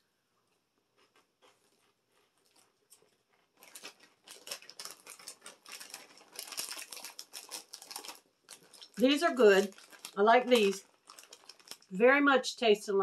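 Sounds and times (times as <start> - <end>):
cheese puff snack crunching: 0.9 - 12.0.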